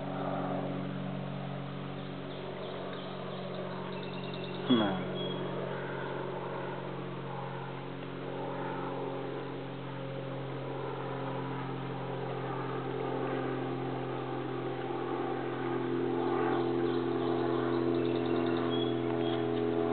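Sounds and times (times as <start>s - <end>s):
engine hum: 0.0s - 19.9s.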